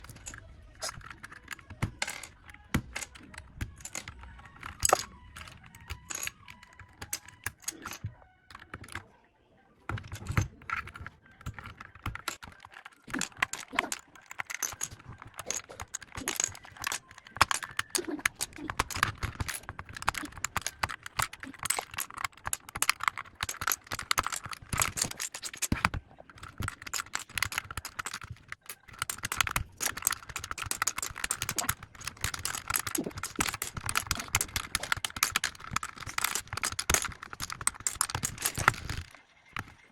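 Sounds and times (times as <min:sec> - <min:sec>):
mechanical keyboard typing: 0:00.0 - 0:09.2, 0:09.9 - 0:39.9.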